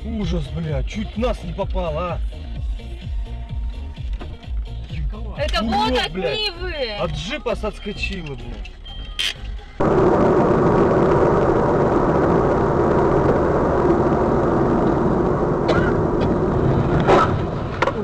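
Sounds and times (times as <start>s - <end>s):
moving car engine and road noise: 0.0s - 18.0s.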